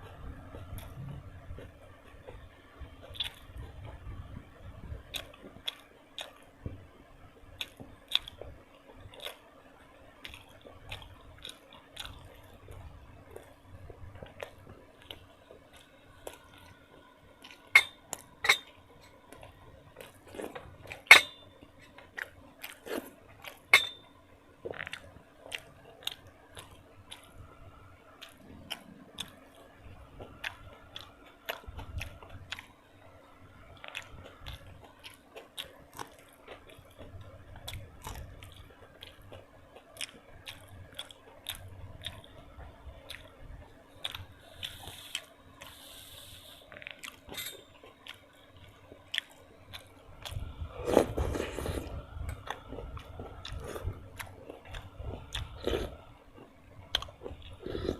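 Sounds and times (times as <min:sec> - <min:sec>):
person chewing: 0:00.0 - 0:06.6, 0:07.6 - 0:09.5, 0:10.1 - 0:32.8, 0:33.7 - 0:57.9
faint steady hum: 0:00.0 - 0:57.9.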